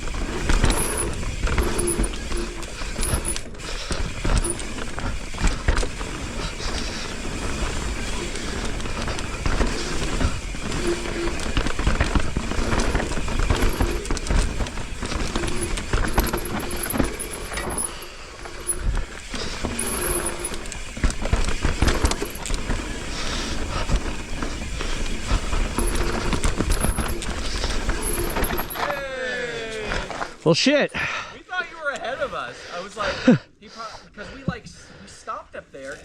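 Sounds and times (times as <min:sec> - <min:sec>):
bike chain and frame rattling: 0:00.0 - 0:29.2
bike tyres on dirt and roots: 0:00.0 - 0:30.4.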